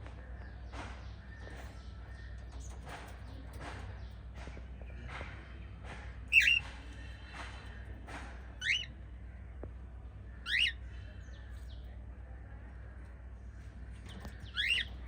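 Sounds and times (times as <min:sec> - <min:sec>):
soft bird chirping: 0:00.0 - 0:05.1, 0:06.3 - 0:07.7, 0:08.5 - 0:15.0
steady low hum: 0:00.0 - 0:15.0.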